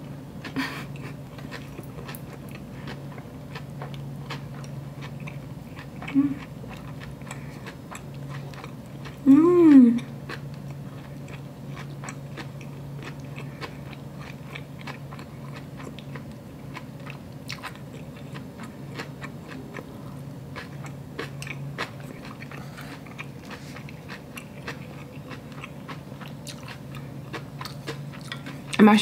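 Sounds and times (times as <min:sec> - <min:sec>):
steady low hum: 0:00.0 - 0:29.0
person chewing wetly: 0:00.4 - 0:09.3, 0:10.0 - 0:28.8.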